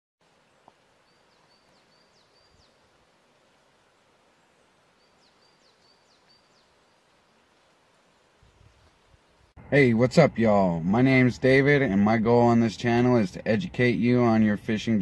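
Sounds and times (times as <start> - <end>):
soft hiss: 0.2 - 15.0
songbird singing: 0.3 - 15.0.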